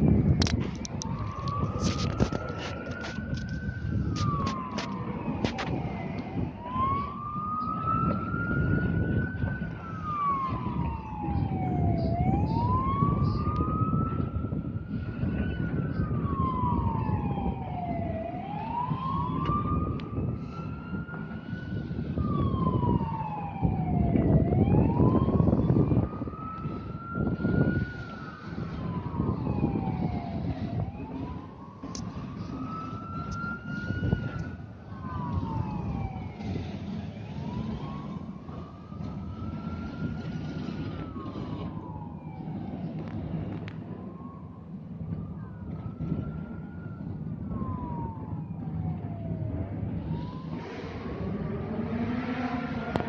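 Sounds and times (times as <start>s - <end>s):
emergency siren wailing: 0.0s - 53.0s.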